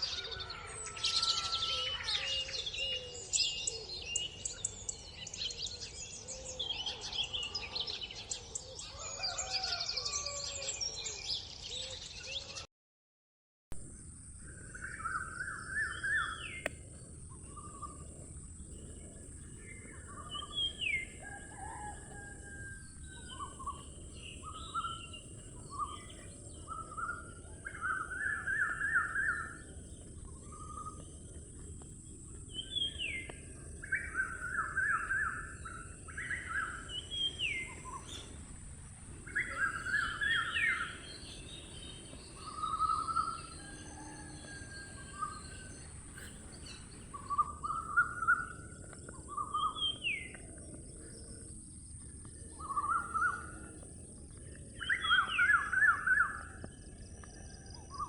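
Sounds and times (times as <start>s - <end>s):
songbirds singing and calling: 0.0s - 12.7s, 13.9s - 58.0s.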